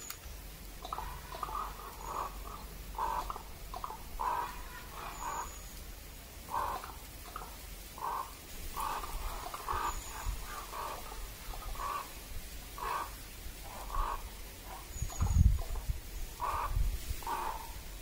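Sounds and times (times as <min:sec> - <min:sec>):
raven clattering calls: 0:00.8 - 0:05.7, 0:06.4 - 0:18.0.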